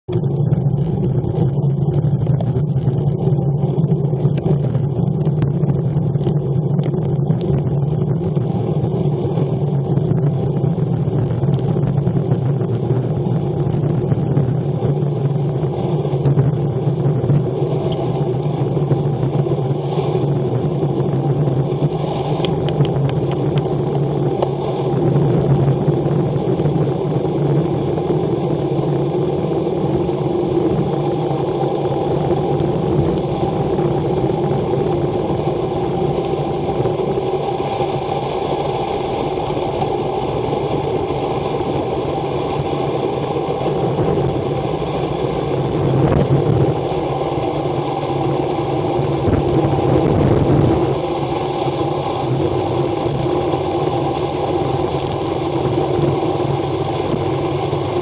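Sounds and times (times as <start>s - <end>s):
wind on microphone: 0.0s - 58.0s.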